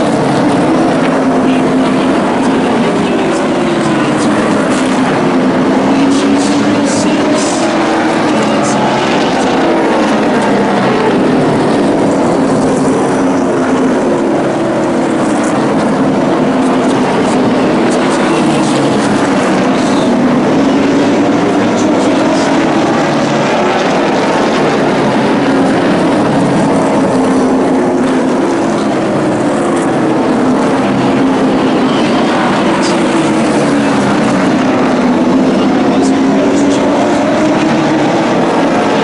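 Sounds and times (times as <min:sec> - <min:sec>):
race truck engines racing: 0:00.0 - 0:39.0.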